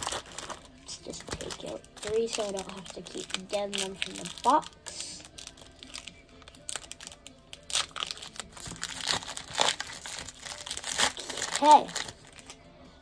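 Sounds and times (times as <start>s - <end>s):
wrapper tearing and crinkling: 0.0s - 12.6s.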